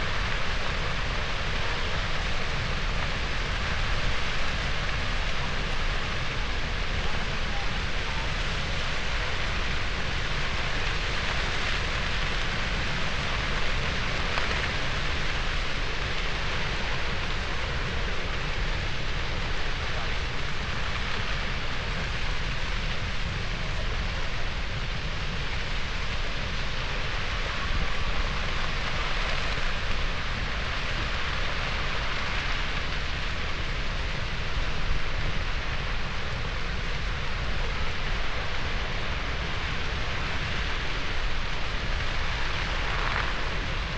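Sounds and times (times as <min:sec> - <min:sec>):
grass fire crackling: 0:00.0 - 0:43.9
low rumble: 0:00.0 - 0:43.9.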